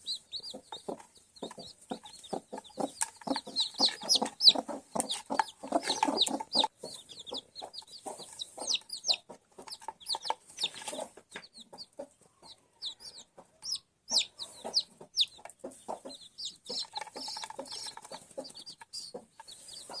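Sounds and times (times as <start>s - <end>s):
chicks peeping: 0.0s - 20.0s
hen clucking: 0.0s - 20.0s.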